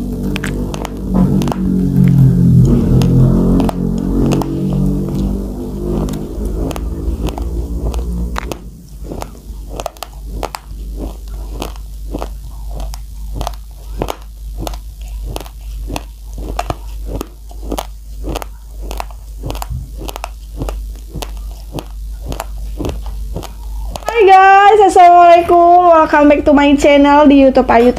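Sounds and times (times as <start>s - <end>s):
rice grains crunched between teeth: 0.0s - 24.2s.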